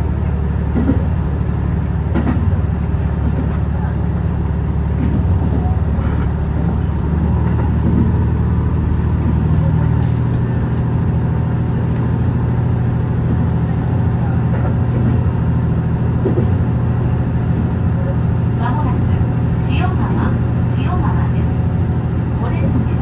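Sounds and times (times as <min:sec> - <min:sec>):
train engine droning: 0:00.0 - 0:23.0.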